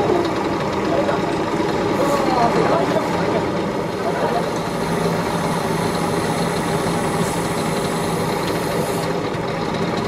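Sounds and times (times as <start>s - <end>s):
heavy engine idling: 0.0s - 10.0s.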